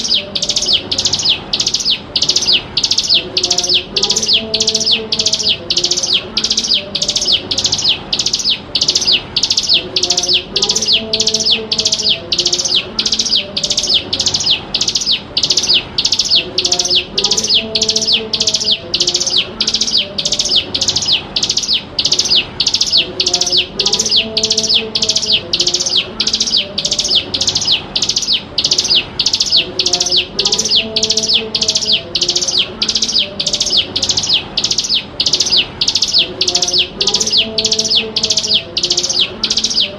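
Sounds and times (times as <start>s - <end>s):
bird calling high note: 0.0s - 39.9s.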